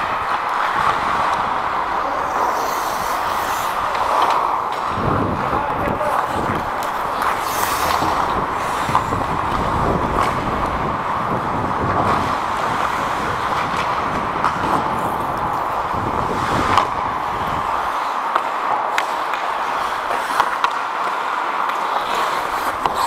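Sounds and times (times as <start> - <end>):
hockey sticks and puck clacking: 0.0 - 23.0
skates scraping on ice: 0.0 - 23.0.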